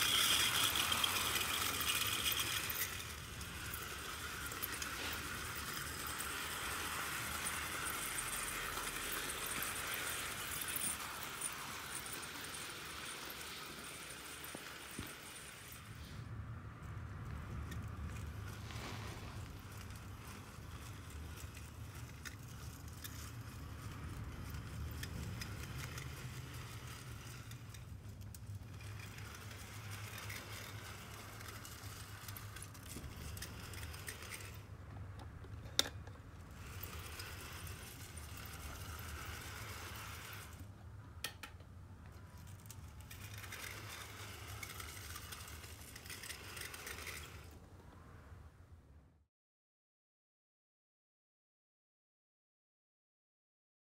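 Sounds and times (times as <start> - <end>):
model train motor whirring: 0.0 - 47.7.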